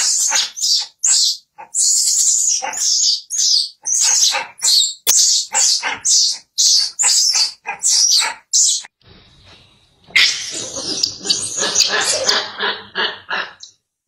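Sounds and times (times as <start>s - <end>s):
baby monkey shrieking: 0.0s - 8.9s, 10.1s - 12.5s.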